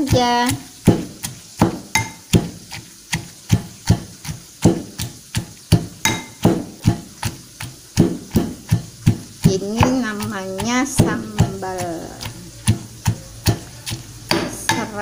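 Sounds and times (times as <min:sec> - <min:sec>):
metal pestle pounding in mortar: 0:00.0 - 0:15.0.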